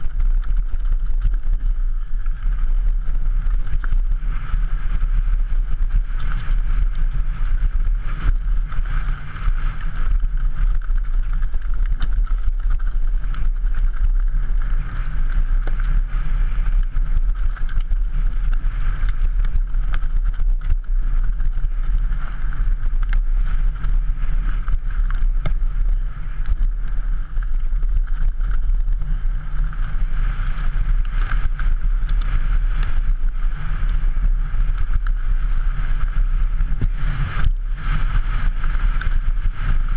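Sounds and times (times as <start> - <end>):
bike rattling over stones: 0.0 - 39.9
wind buffeting microphone: 0.0 - 39.9.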